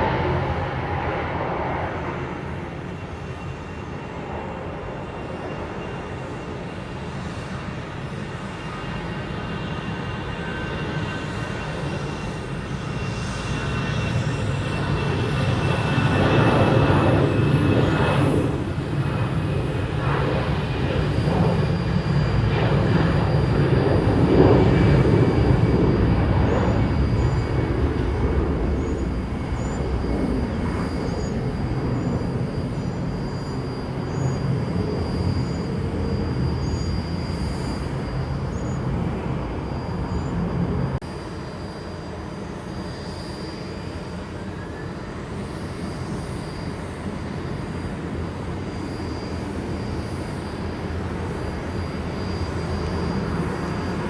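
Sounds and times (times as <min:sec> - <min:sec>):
high engine whine: 0:00.0 - 0:54.0
jet engines rushing: 0:00.0 - 0:54.0.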